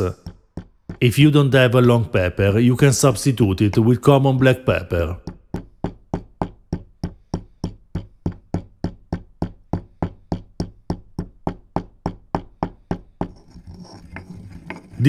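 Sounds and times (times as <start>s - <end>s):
pestle pounding in stone mortar: 0.0s - 2.0s, 3.3s - 15.0s
pestle grinding and scraping: 0.0s - 2.6s, 3.2s - 15.0s.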